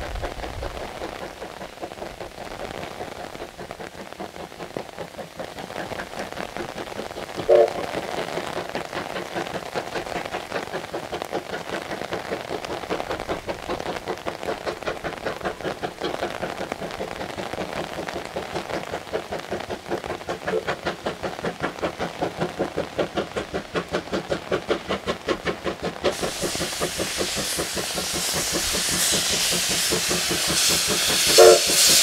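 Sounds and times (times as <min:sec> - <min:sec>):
steam locomotive exhaust beats: 0:00.0 - 0:32.0.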